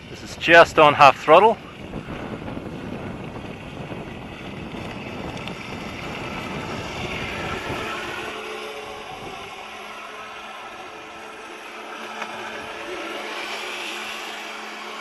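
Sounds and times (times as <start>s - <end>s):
water rushing: 0.0s - 15.0s
low rumble: 1.1s - 14.2s.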